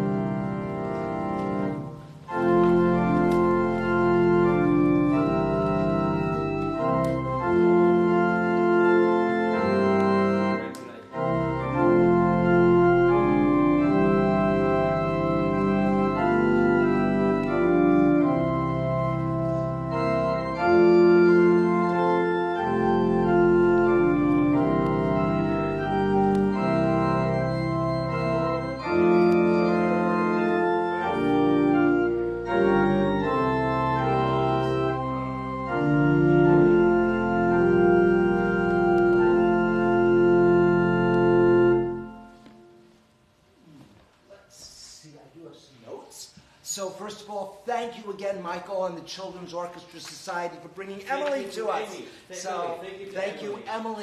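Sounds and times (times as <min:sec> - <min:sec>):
church organ chords: 0:00.0 - 0:43.5.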